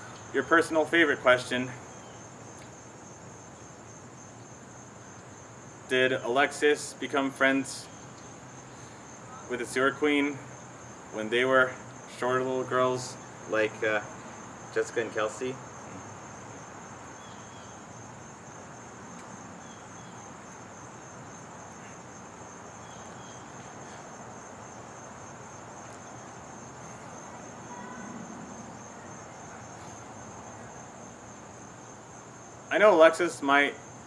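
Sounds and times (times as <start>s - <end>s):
crickets chirping: 0.0s - 34.0s
outdoor background hiss: 0.0s - 34.0s.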